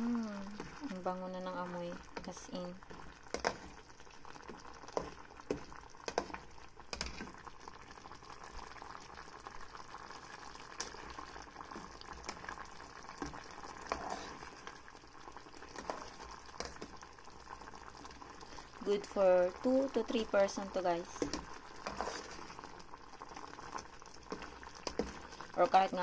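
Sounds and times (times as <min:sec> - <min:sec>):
pot bubbling: 0:00.0 - 0:26.0.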